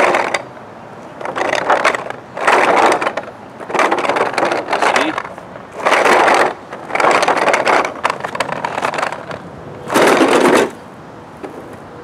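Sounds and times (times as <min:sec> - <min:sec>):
dolly casters rolling on ramp: 0:00.0 - 0:11.8.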